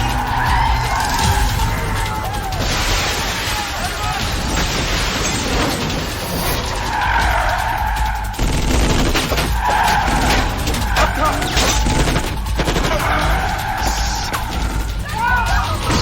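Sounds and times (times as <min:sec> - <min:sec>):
sharp bangs: 0:00.0 - 0:16.0
tyres screeching: 0:00.0 - 0:16.0.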